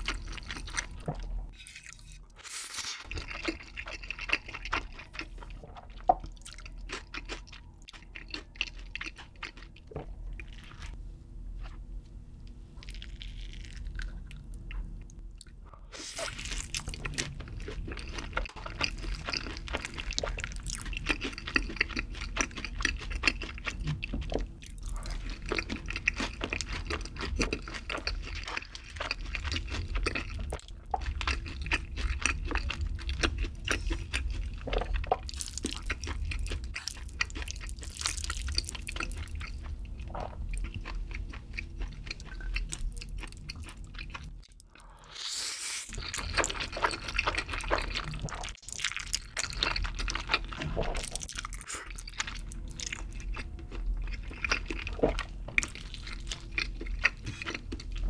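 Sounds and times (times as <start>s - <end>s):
crunchy chewing: 0.0s - 11.0s, 12.8s - 58.0s.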